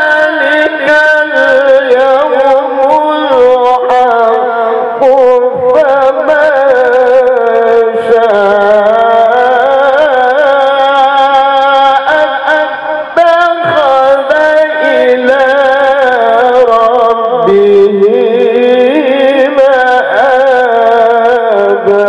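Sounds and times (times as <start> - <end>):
man reciting in sung style: 0.0 - 22.0.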